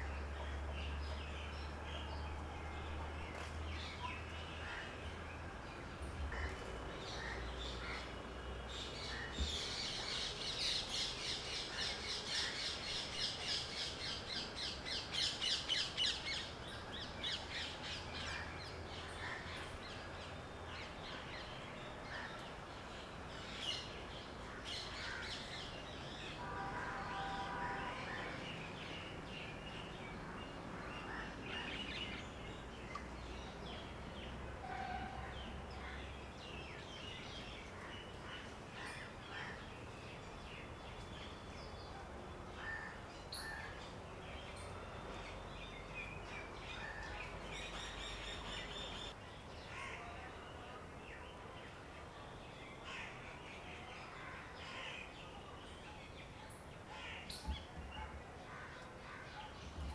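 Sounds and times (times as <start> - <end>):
faint outdoor background: 0.0 - 59.9.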